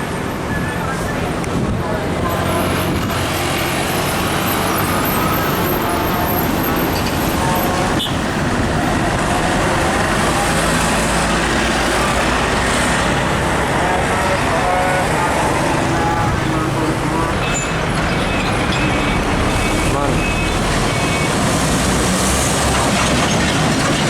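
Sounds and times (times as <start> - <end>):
road traffic: 0.0 - 24.0
truck diesel engines passing: 0.0 - 24.0.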